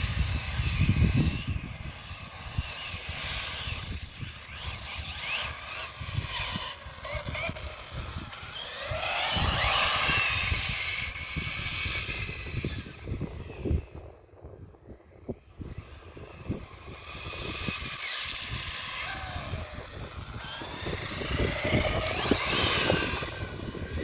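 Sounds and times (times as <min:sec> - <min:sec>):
rc car motor whining: 0:00.0 - 0:14.2, 0:15.2 - 0:24.0.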